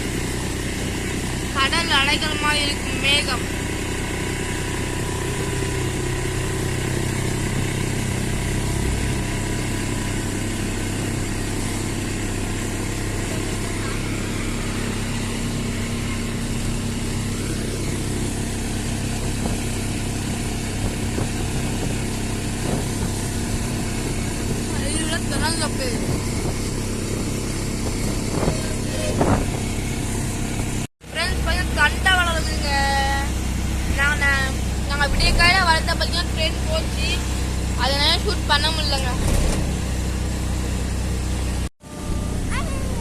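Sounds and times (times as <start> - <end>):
vehicle engine and road noise: 0.0 - 43.0.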